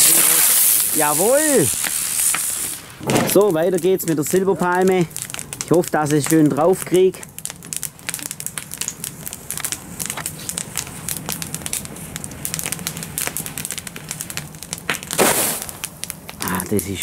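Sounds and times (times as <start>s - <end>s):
loud hissing burst: 0.0s - 4.0s, 6.8s - 17.0s
wood fire crackling and popping: 0.0s - 17.0s.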